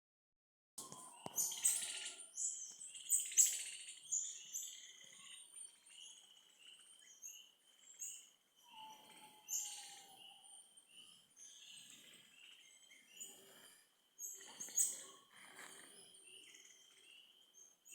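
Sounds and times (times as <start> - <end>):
wild birds chirping: 0.8 - 17.9.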